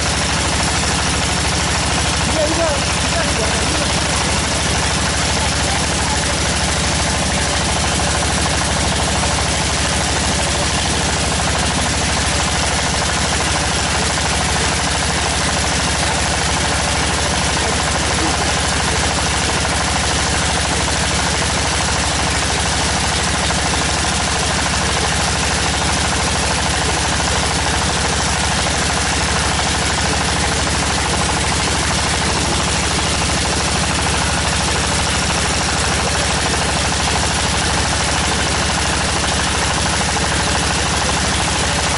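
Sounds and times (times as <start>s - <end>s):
drilling rig engine: 0.0s - 41.9s
rapid rattling impacts: 0.0s - 41.9s.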